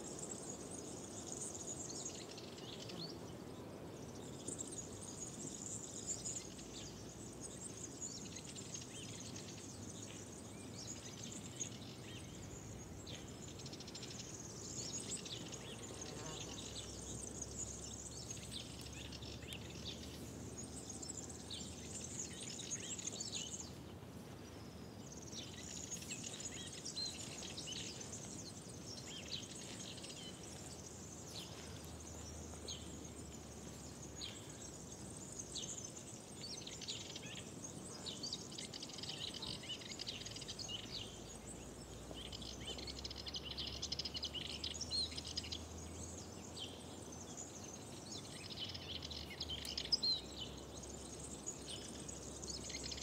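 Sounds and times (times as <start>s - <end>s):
low outdoor background: 0.0s - 53.0s
songbirds chirping and trilling: 0.0s - 53.0s.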